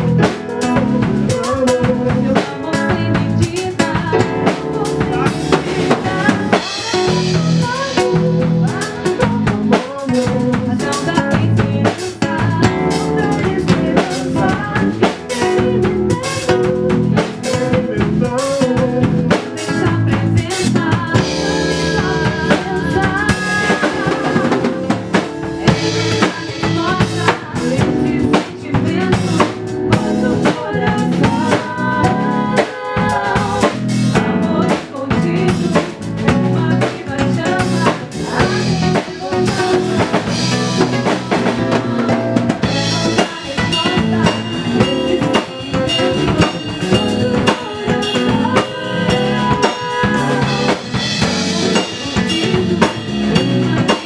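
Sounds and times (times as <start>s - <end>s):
band playing instrumental: 0.0s - 54.0s
drum kit with snare and bass drum: 0.0s - 54.0s.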